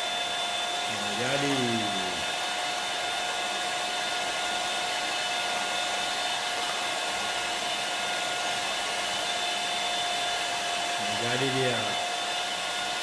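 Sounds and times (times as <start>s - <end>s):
electric hand mixer whining: 0.0s - 13.0s.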